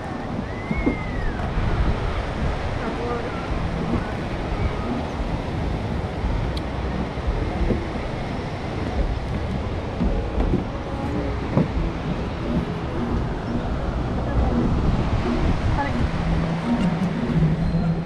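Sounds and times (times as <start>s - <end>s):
faint voices: 0.0s - 18.0s
ocean surf: 0.0s - 18.0s
wind rumble on microphone: 0.0s - 18.0s.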